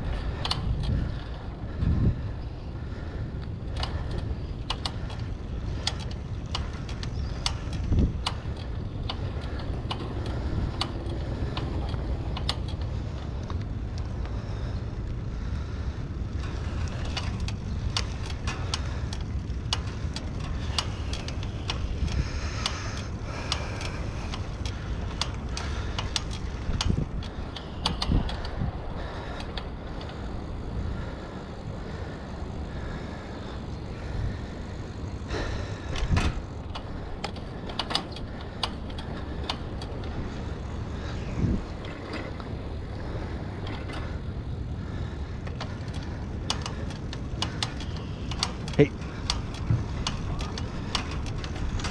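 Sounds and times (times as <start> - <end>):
bicycle tyre noise: 0.0 - 51.9
bike rack rattling and clicking: 0.0 - 51.9
wind rumble on microphone: 0.0 - 51.9.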